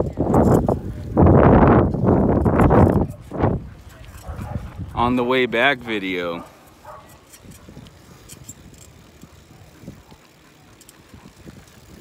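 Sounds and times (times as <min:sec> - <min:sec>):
wind on microphone: 0:00.0 - 0:05.4, 0:06.8 - 0:10.2, 0:11.0 - 0:12.0
bicycle tyres on path: 0:00.0 - 0:12.0.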